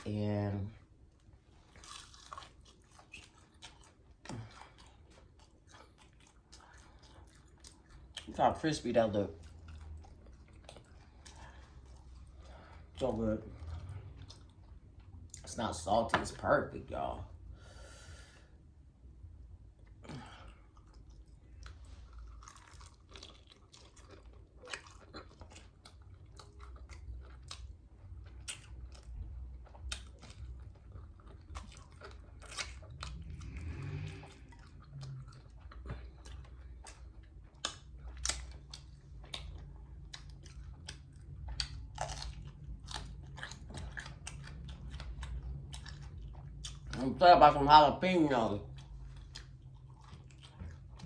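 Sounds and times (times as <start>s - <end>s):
chewing crispy fried chicken: 0.0s - 17.4s, 19.6s - 51.0s.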